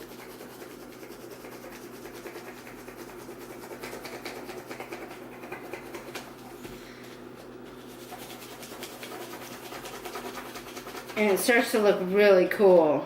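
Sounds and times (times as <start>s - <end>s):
crayon scraping on paper: 0.0s - 6.4s, 7.6s - 12.0s.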